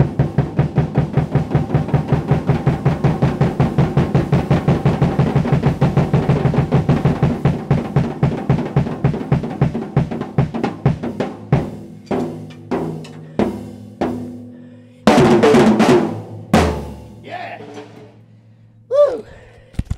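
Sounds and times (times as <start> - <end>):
drum kit played with hands: 0.0 - 18.6.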